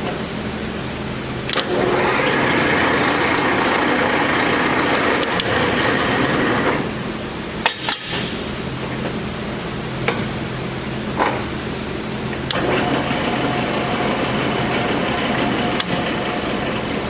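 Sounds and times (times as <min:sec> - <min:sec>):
high machine whine: 0:00.0 - 0:17.0
lathe running with hum: 0:00.0 - 0:17.0.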